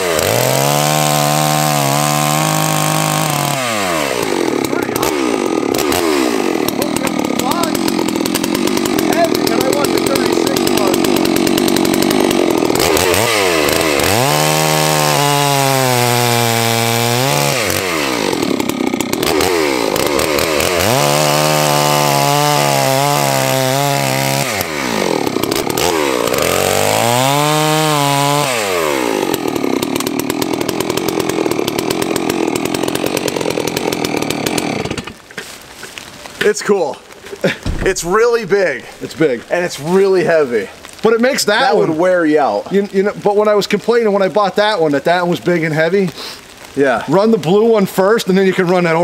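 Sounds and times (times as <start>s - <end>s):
chainsaw cutting logs: 0.0s - 49.0s.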